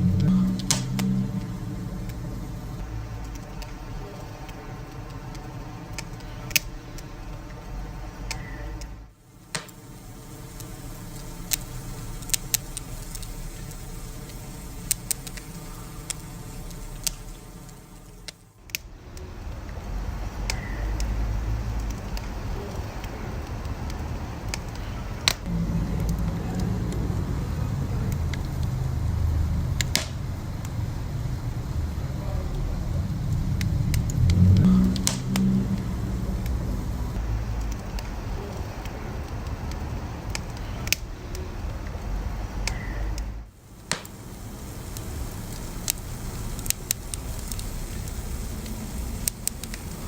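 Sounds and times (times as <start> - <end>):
fire crackling and popping: 0.0 - 50.0
low rumble of flames: 0.0 - 50.0.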